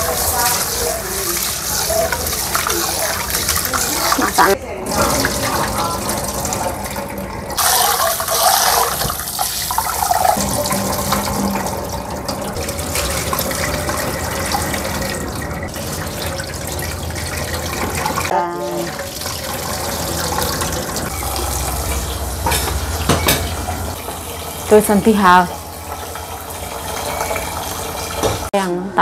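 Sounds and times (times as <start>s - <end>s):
water splashing in a sink: 0.0s - 28.5s.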